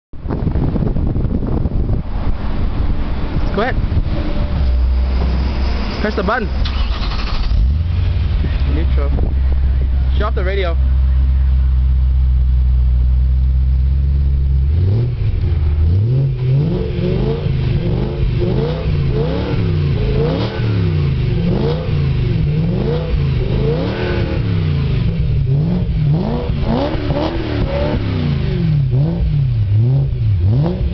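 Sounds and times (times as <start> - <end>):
car engine revving: 1.8 - 30.9.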